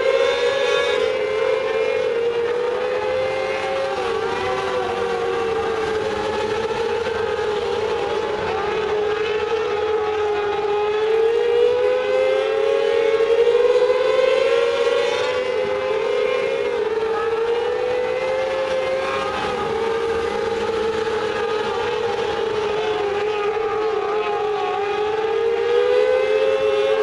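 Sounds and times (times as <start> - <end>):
race car engines whining: 0.0 - 27.0.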